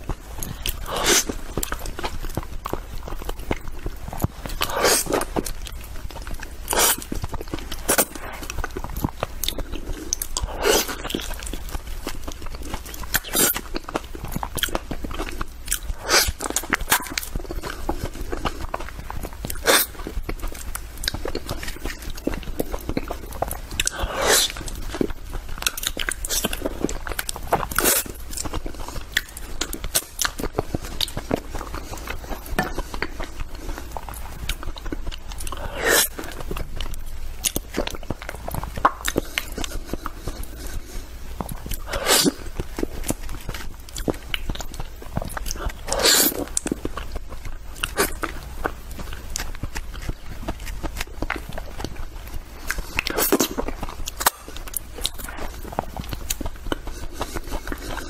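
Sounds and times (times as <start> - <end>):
wet chewing and lip-smacking: 0.0 - 58.0.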